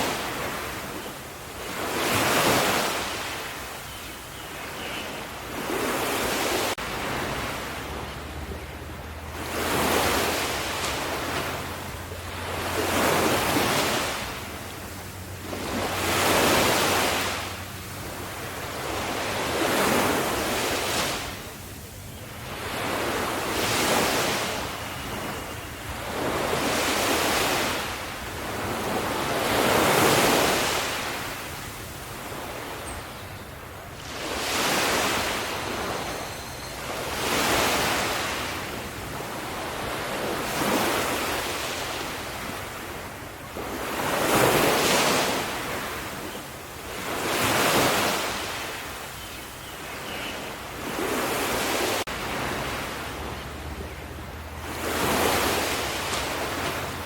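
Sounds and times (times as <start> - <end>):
ocean waves washing in: 0.0 - 49.6, 50.5 - 57.0.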